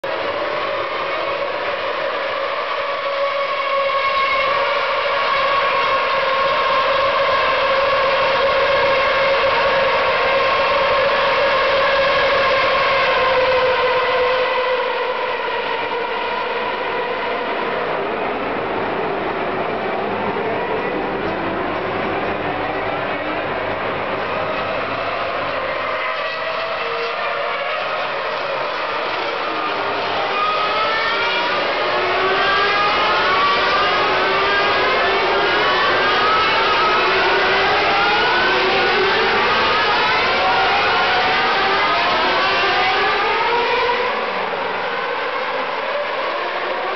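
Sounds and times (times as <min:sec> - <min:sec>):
distant racing car engines droning: 0:00.0 - 0:46.9.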